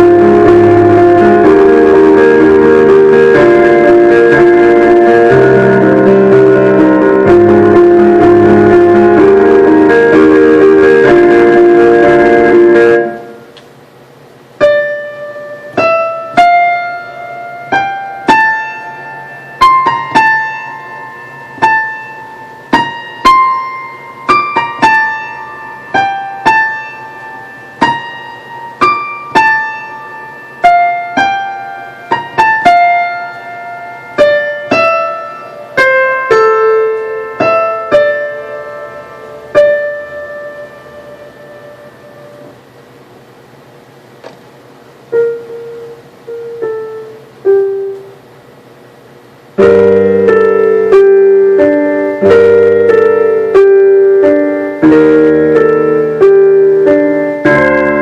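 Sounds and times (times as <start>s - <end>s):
slow piano melody: 0.0s - 58.0s.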